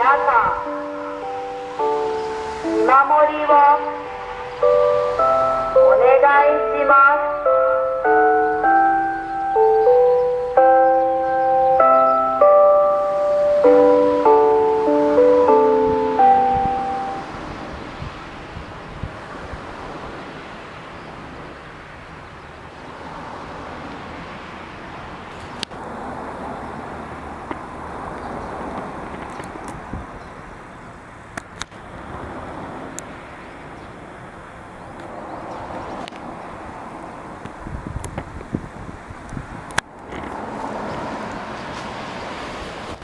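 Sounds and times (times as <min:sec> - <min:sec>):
cars passing: 0:00.0 - 0:43.0.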